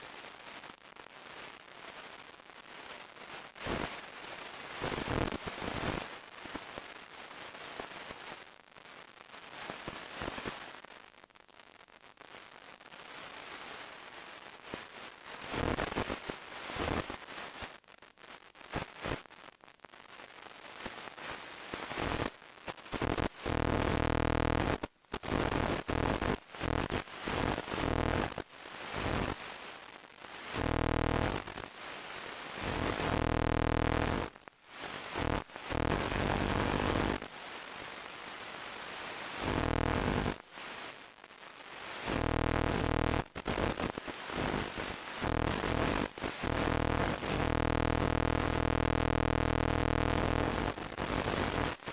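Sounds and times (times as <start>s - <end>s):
crackling static hiss: 0.0s - 51.9s.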